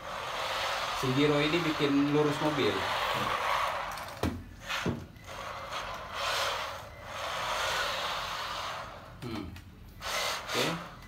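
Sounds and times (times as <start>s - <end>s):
small electric motor running: 0.0s - 9.1s
toy car tyres scrubbing: 0.0s - 9.2s, 10.0s - 11.0s.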